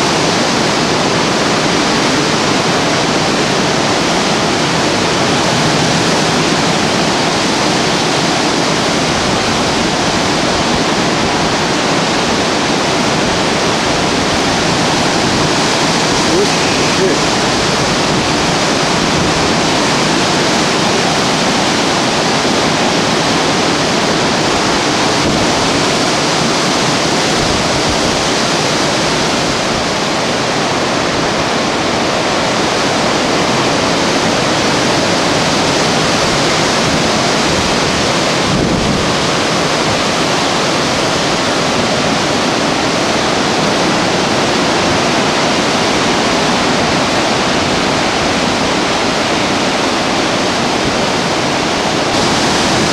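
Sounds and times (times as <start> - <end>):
strong wind roaring through trees: 0.0 - 52.9.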